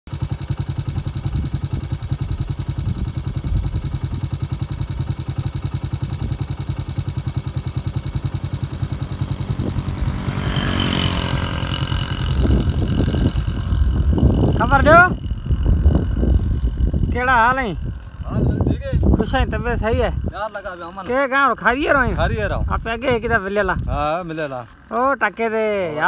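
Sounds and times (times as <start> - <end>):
motorcycle approaching: 0.1 - 26.0
motorcycle engine idling: 0.1 - 26.0.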